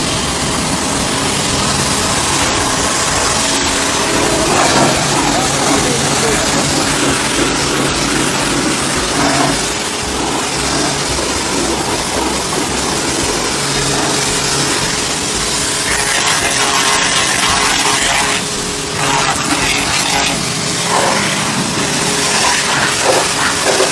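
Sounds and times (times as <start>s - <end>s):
pressure washer pump hum: 0.0s - 23.9s
hiss of water spray: 2.0s - 23.9s.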